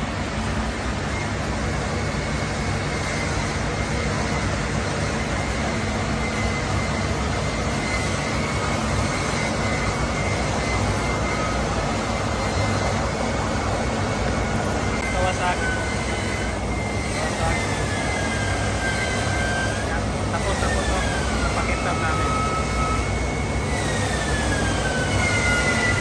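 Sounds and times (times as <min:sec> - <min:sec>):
factory machinery drone: 0:00.0 - 0:26.0
faint high whine: 0:00.0 - 0:26.0.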